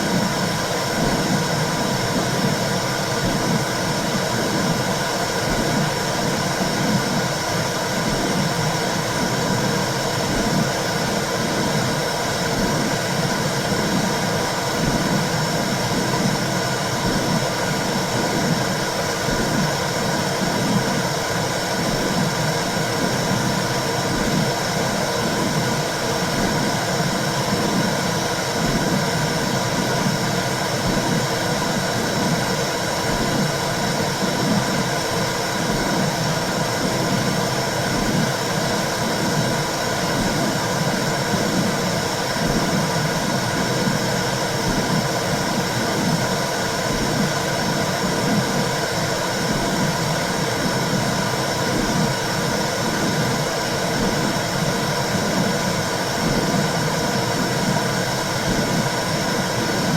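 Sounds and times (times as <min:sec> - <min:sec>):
soft rhythmic heartbeat pulse: 0:00.0 - 0:59.9.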